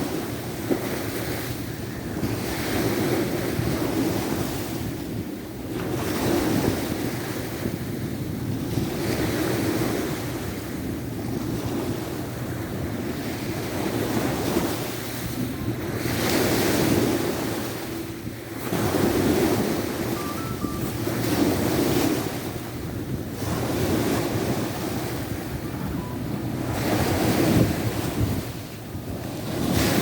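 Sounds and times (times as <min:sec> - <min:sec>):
waves breaking on shore: 0:00.0 - 0:30.0
wind buffeting microphone: 0:00.0 - 0:30.0.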